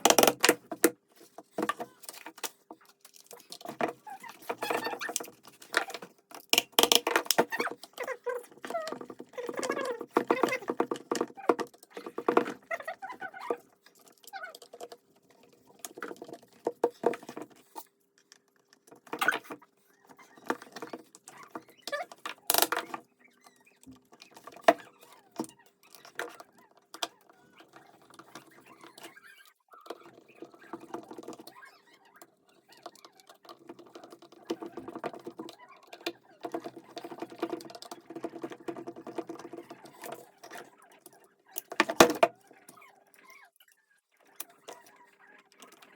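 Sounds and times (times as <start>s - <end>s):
small parts and tools rattling: 0.0s - 45.9s.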